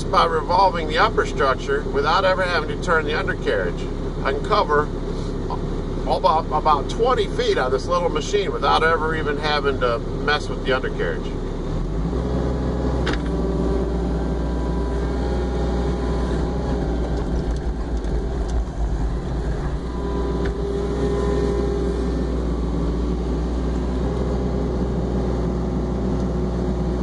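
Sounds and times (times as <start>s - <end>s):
diesel engine running under load: 0.0s - 27.0s
hydraulics whining: 0.0s - 27.0s.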